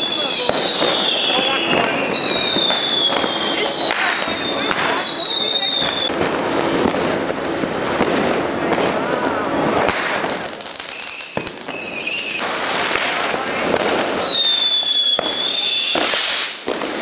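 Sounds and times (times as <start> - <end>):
firecrackers crackling: 0.0 - 17.0
firework bangs: 0.0 - 17.0
whistling firework: 0.0 - 17.0.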